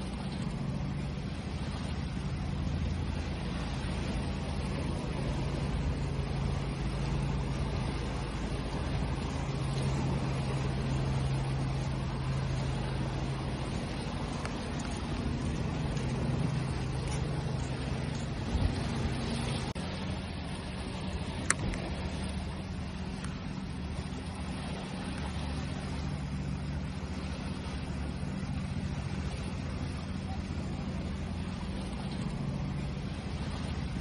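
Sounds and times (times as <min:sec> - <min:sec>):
low steady hum: 0:00.0 - 0:34.0
water waves rushing: 0:00.0 - 0:34.0.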